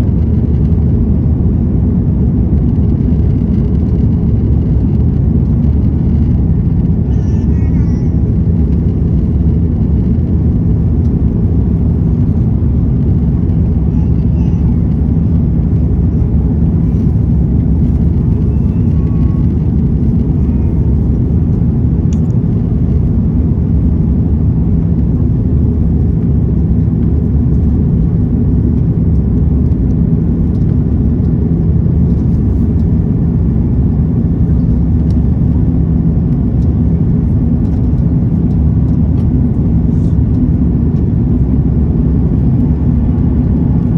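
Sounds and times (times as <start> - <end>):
jet engine drone in cabin: 0.0 - 43.9.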